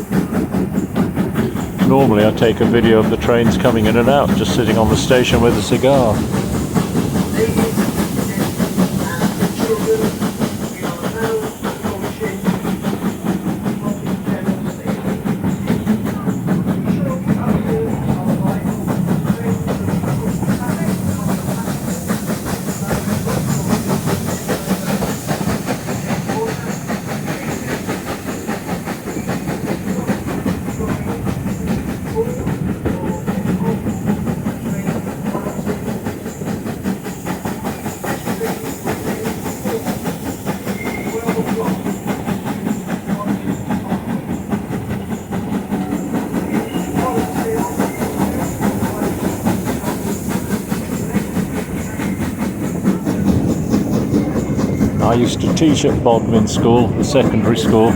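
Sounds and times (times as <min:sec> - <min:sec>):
steam hiss: 0:00.0 - 0:57.9
train rumble: 0:00.0 - 0:57.9
train wheels clattering on rails: 0:00.0 - 0:57.9.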